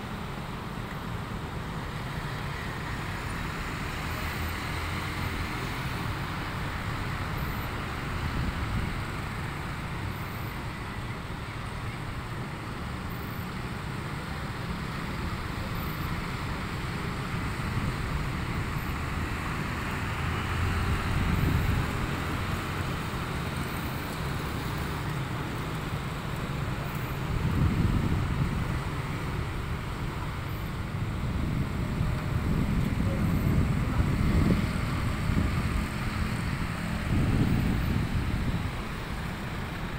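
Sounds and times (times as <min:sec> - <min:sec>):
cars passing: 0:00.0 - 0:39.9
motorcycle and scooter engines: 0:00.0 - 0:39.9.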